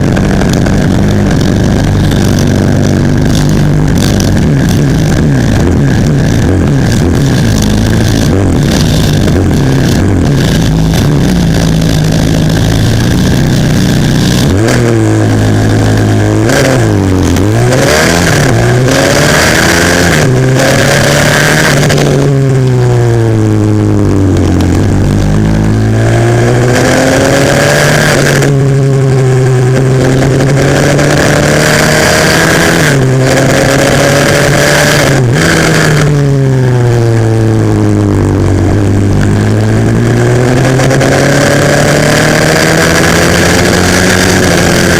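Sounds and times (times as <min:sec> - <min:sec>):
pit bike engine revving: 0:00.0 - 0:44.9.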